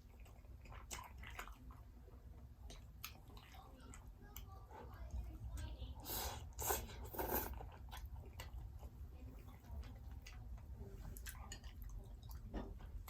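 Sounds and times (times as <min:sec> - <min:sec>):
chewing with wet clicks: 0:00.0 - 0:05.9, 0:06.6 - 0:13.0.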